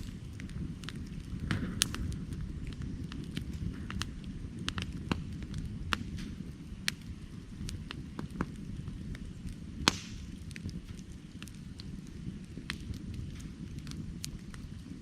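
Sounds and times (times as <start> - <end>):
firewood crackling: 0.0 - 15.0
low rumble of flame: 0.0 - 15.0.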